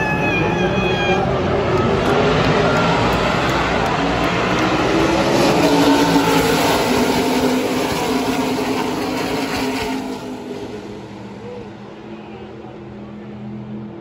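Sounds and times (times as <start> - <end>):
distant drone of engines: 0.0 - 14.0
race trucks passing at speed: 0.0 - 14.0.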